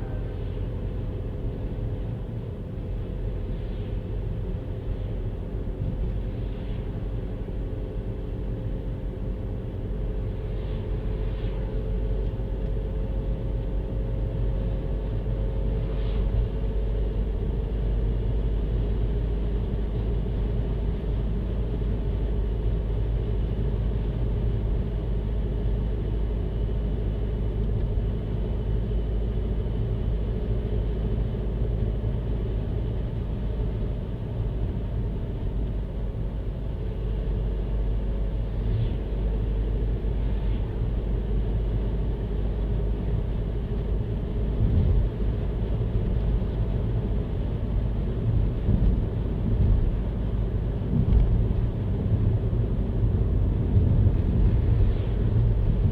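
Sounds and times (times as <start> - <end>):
car driving rumble: 0.0 - 55.9.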